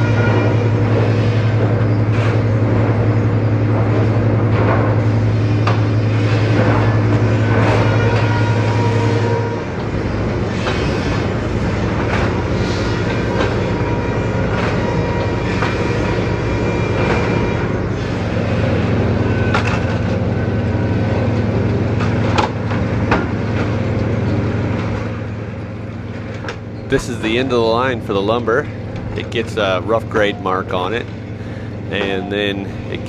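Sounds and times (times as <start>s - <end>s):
sawmill machinery humming: 0.0s - 33.0s.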